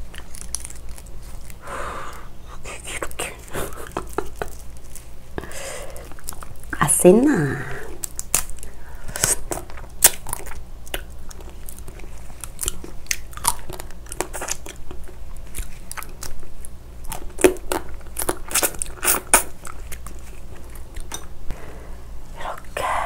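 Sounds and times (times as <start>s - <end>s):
crunching and wet chewing: 0.0s - 6.8s, 7.9s - 21.4s.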